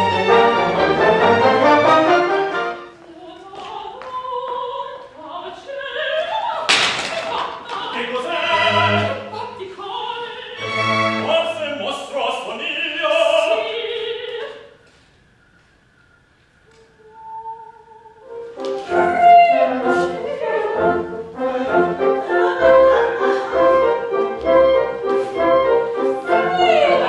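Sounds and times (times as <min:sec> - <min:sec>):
operatic duet singing: 0:00.0 - 0:14.7, 0:17.0 - 0:27.0.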